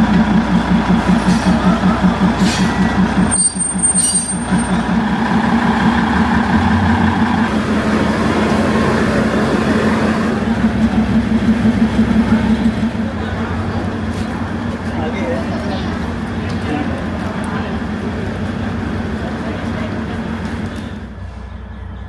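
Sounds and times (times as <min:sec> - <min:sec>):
locomotive engine throbbing: 0:00.0 - 0:22.0.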